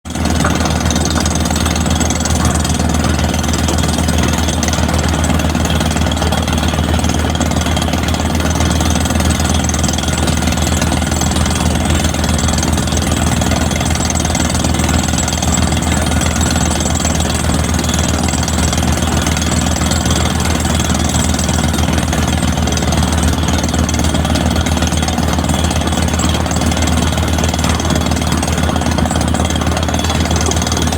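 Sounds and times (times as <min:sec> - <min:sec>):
excavator diesel engine running: 0:00.1 - 0:30.9.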